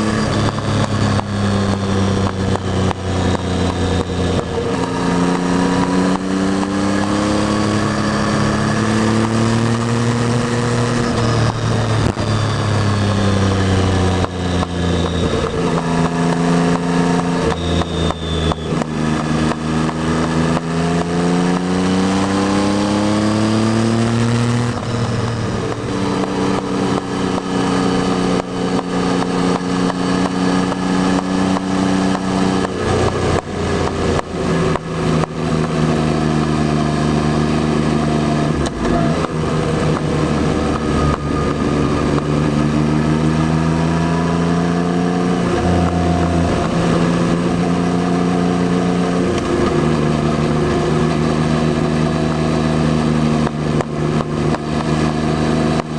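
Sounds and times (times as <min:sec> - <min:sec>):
engine crackling on closed throttle: 0:00.0 - 0:55.9
motorcycle engine accelerating: 0:00.0 - 0:55.9.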